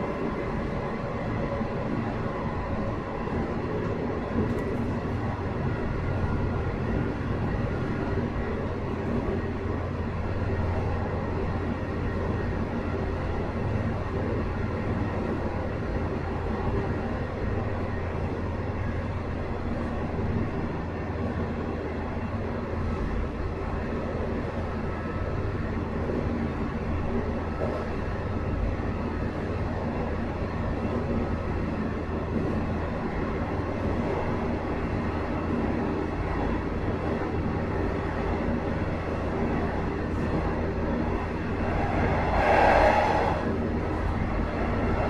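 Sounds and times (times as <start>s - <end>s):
diesel engine hum: 0.0s - 45.0s
wheels rumbling on rail: 0.0s - 45.0s.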